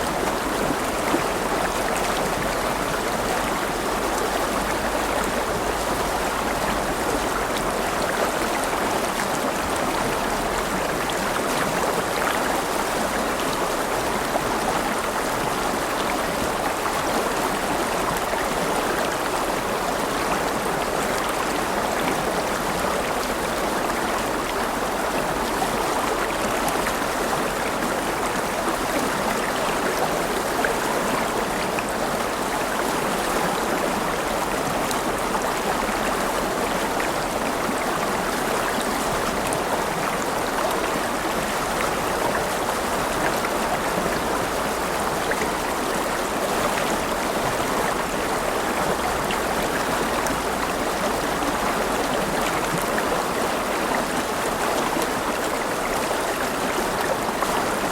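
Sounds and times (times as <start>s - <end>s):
river water flowing over stones: 0.0s - 57.9s.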